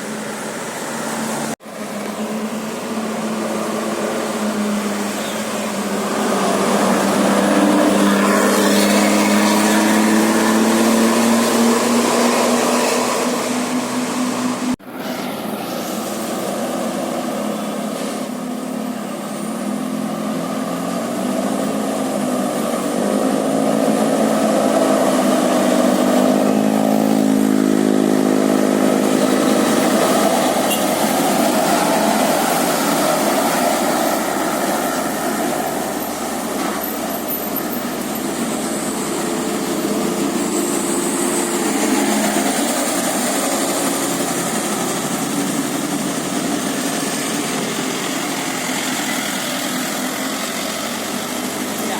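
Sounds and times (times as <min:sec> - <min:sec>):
bus diesel engine revving: 0:00.0 - 0:51.9
road traffic: 0:00.0 - 0:51.9.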